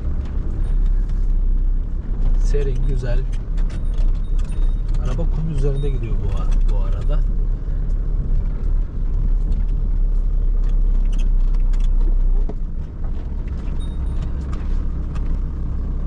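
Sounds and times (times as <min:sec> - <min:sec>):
van engine rumbling: 0:00.0 - 0:16.0.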